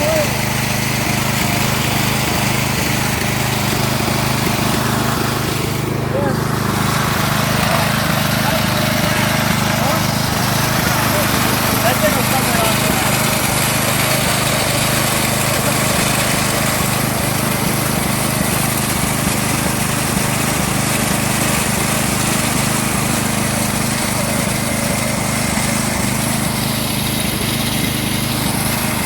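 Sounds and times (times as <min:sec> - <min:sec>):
riding lawnmower engine running: 0:00.0 - 0:29.0.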